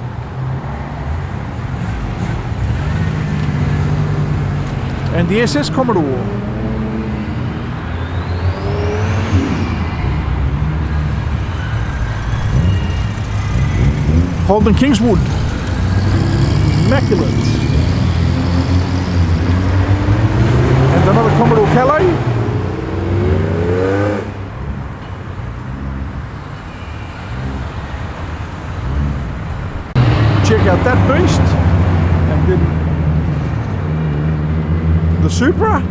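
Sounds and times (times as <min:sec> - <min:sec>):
car engine running loud and low: 0:00.0 - 0:35.9.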